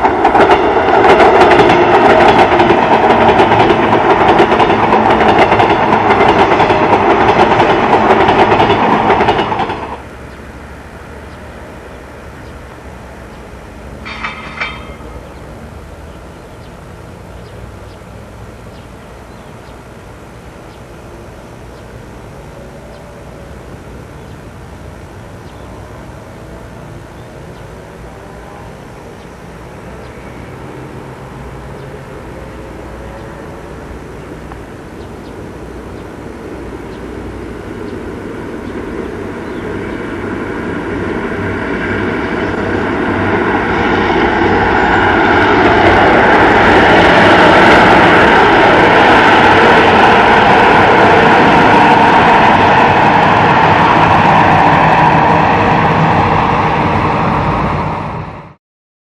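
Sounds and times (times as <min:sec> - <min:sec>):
train approaching: 0:00.0 - 0:58.6.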